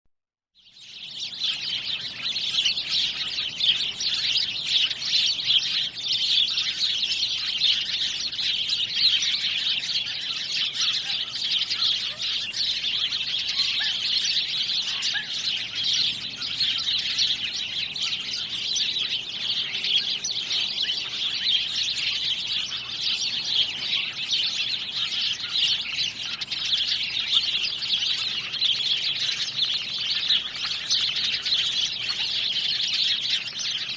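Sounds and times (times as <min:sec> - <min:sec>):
songbirds chorus: 0:00.6 - 0:33.9.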